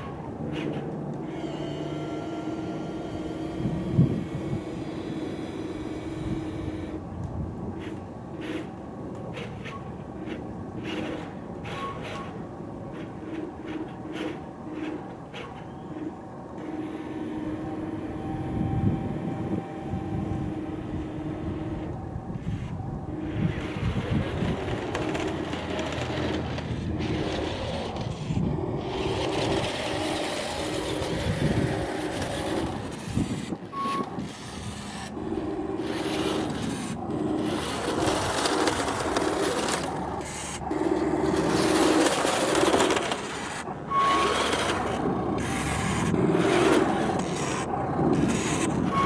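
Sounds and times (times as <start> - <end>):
electric motor and gears whining: 0.0 - 8.8, 13.0 - 49.0.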